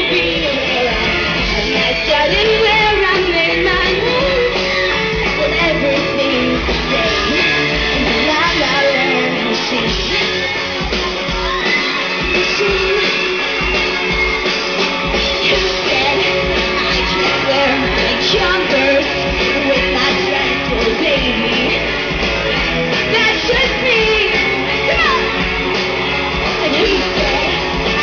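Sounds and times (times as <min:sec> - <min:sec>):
woman singing: 0:00.0 - 0:13.6, 0:15.0 - 0:21.9, 0:23.1 - 0:25.2, 0:26.6 - 0:28.0
live pop-rock band: 0:00.0 - 0:28.0.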